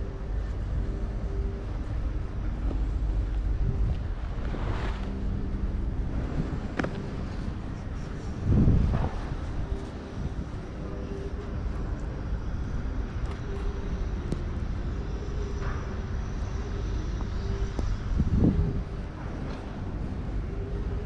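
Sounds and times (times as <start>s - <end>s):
low rumble of traffic: 0.0s - 21.0s
sustained hum: 0.0s - 21.0s.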